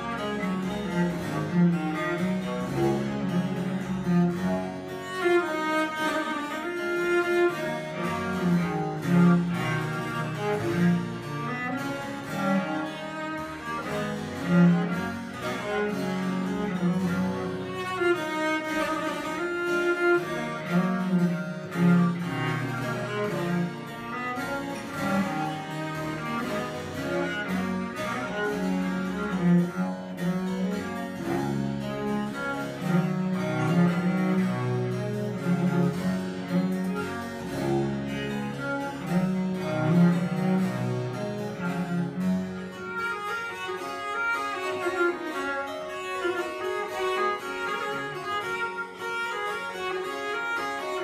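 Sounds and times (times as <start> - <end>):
harpsichord: 0.0 - 51.0
viola da gamba bowed melody: 0.0 - 51.0.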